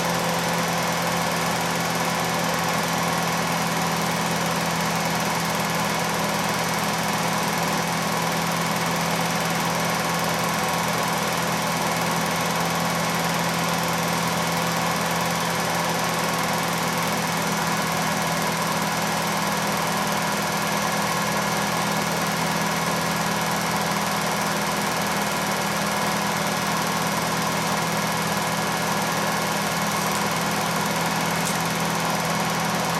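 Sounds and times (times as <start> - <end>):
film projector running: 0.0 - 32.9.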